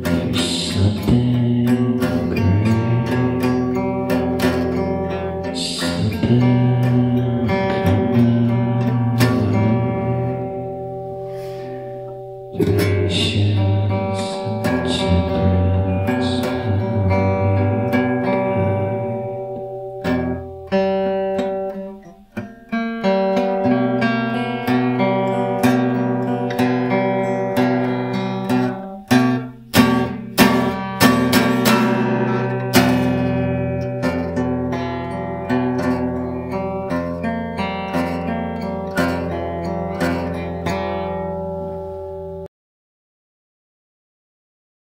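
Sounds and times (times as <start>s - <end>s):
acoustic guitar strumming blues: 0.0s - 42.5s.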